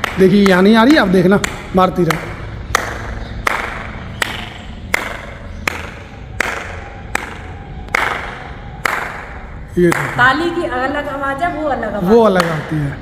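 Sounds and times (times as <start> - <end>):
hand claps with long echo: 0.0 - 10.2, 12.3 - 12.8.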